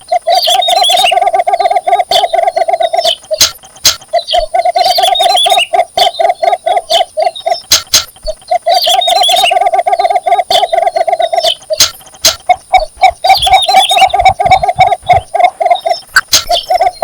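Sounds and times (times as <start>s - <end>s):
bird giving low clucking call: 0.0s - 17.0s.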